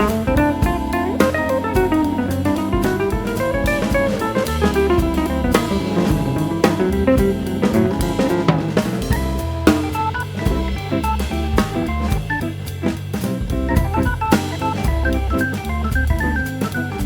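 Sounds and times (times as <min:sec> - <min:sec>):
drum kit beat: 0:00.0 - 0:17.0
instrumental jazz music: 0:00.0 - 0:17.0.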